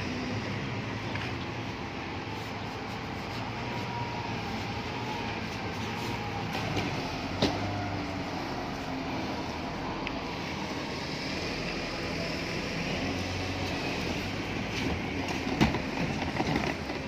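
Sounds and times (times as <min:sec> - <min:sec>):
heavy vehicles and machinery rumbling: 0:00.0 - 0:17.0.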